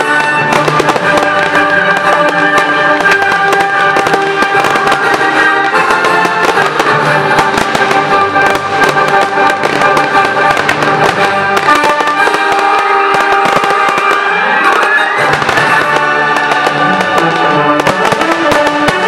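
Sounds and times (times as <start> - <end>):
film score music: 0.0 - 19.0
fireworks bangs and crackles: 0.0 - 19.0.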